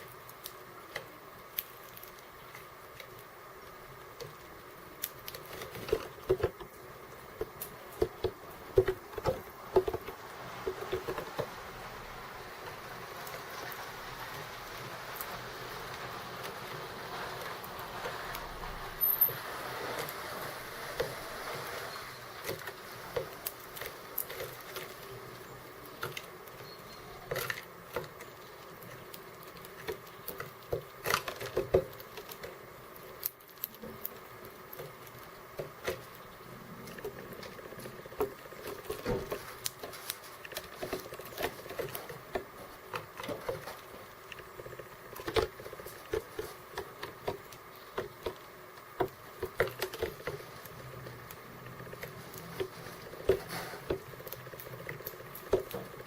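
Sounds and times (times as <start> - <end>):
birds pecking at seeds: 0.0 - 56.0.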